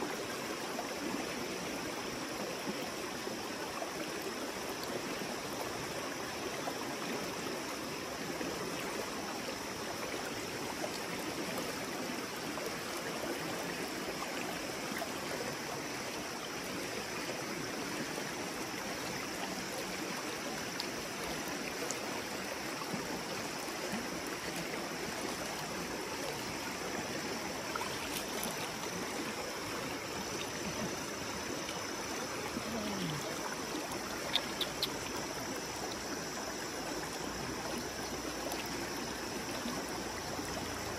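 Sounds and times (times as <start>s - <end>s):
river water rushing over stones: 0.0s - 40.9s.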